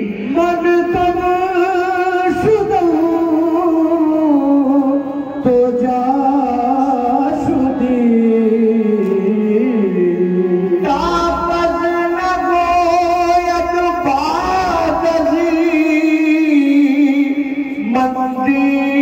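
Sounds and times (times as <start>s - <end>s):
man singing long sliding phrase: 0.0s - 19.0s
vocal ensemble singing: 0.0s - 19.0s.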